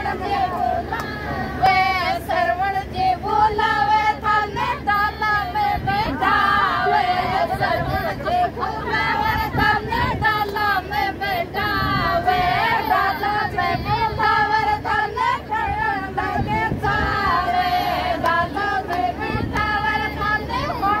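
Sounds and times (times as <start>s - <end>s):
women singing folk song: 0.0s - 21.0s.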